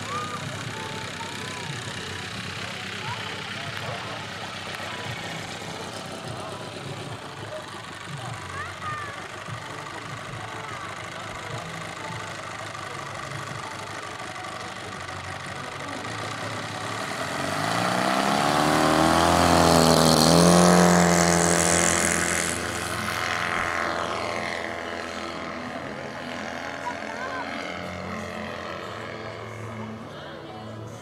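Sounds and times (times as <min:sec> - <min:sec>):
model airplane engine: 0:00.0 - 0:31.0.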